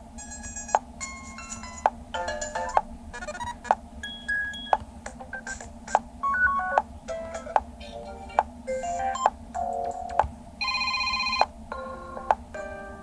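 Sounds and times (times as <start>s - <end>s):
electronic ringtone melodies: 0.2s - 13.0s.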